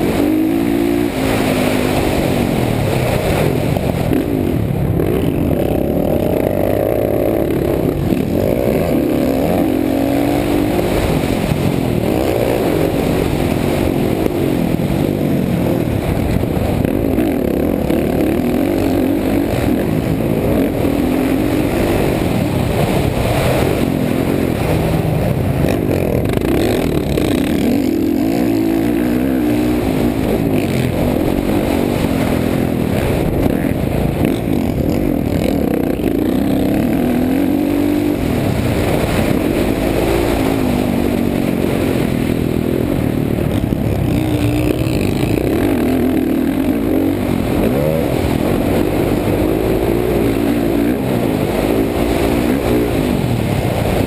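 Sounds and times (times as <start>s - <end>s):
dirt bike engine revving: 0.0s - 54.0s
rushing wind noise: 0.0s - 54.0s.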